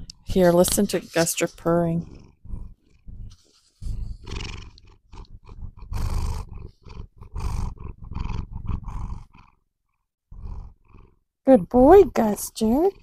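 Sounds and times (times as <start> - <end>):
cat purring loudly: 0.0 - 13.0.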